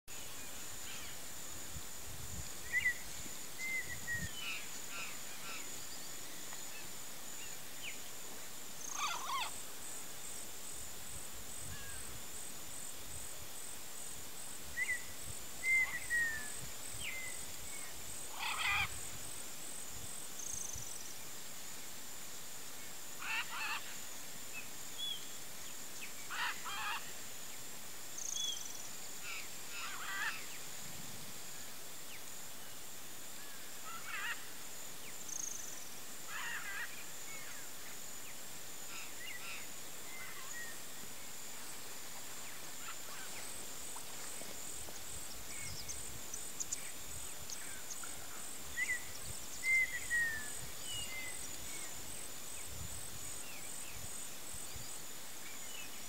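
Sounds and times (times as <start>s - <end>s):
high insect buzz: 0.1s - 56.0s.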